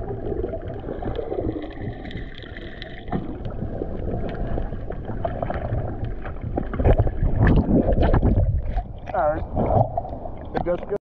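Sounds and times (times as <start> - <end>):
underwater sloshing and bubbling: 0.0 - 11.0.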